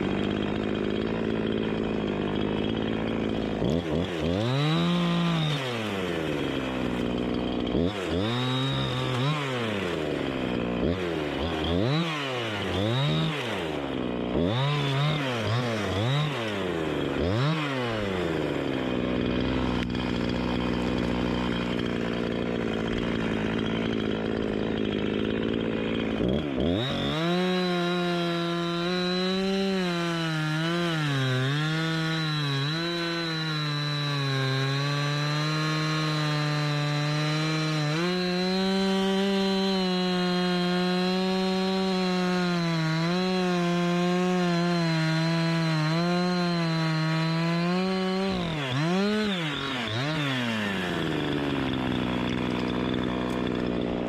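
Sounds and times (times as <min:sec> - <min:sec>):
chainsaw cutting wood: 0:00.0 - 0:54.0
chainsaw revving: 0:00.0 - 0:54.0.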